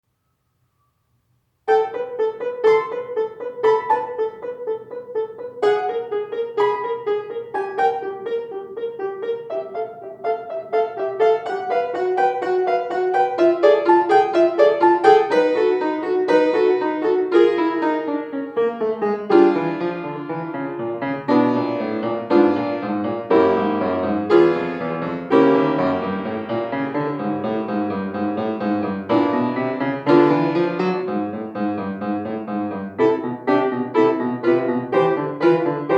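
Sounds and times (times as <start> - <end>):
low piano bass line: 1.7 - 35.9
solo piano playing: 1.7 - 35.9.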